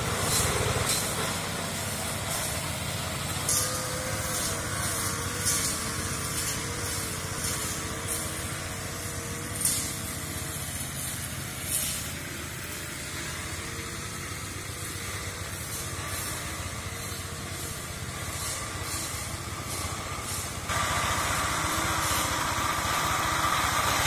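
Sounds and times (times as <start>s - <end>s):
short hissing bursts: 0.0s - 24.0s
small petrol engine running: 0.0s - 24.0s.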